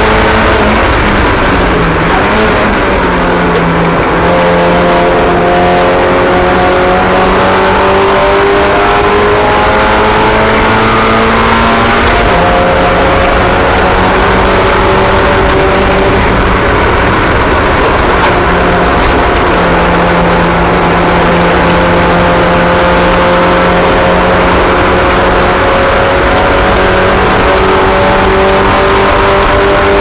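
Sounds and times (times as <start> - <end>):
small racing car engines: 0.0 - 30.0.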